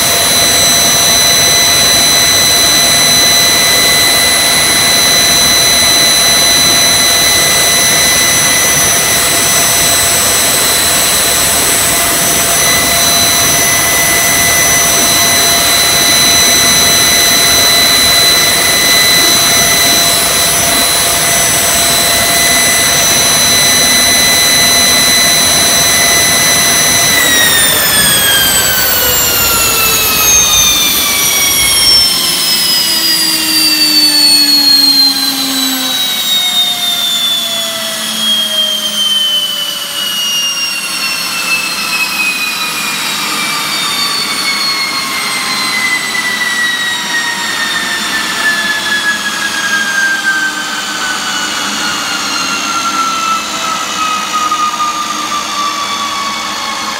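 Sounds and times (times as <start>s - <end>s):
gas turbine whine spooling down: 0.0s - 56.9s.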